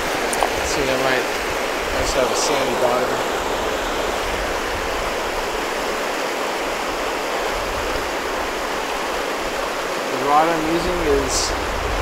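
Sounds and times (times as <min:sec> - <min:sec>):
river rushing over riffle: 0:00.0 - 0:12.0.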